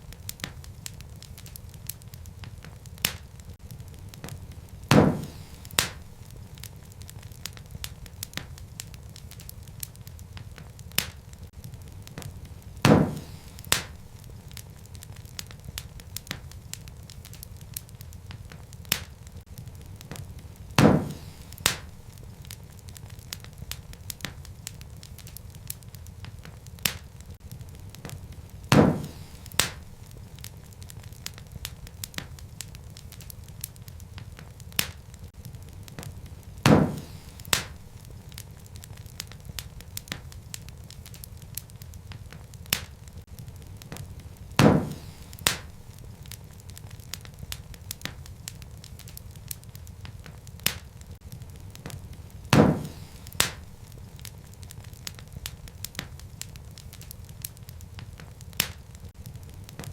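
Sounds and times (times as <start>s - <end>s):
fire crackling: 0.0s - 59.9s
loud fire pops: 0.0s - 59.9s.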